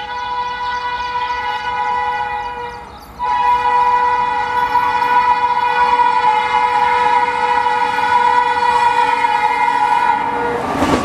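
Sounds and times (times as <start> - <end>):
locomotive air horn chord: 0.0 - 11.0.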